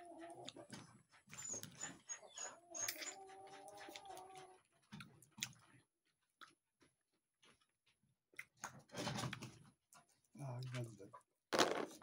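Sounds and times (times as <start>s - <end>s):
quiet chewing: 0.0s - 11.3s.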